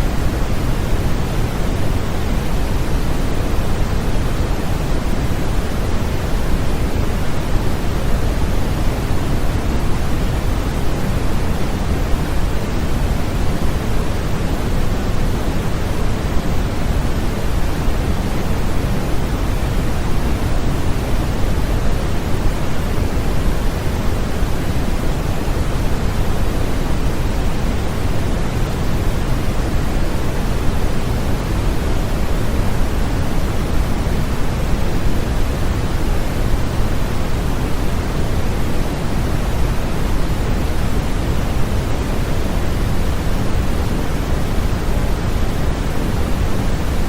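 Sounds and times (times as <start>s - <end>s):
white noise hiss: 0.0s - 47.0s.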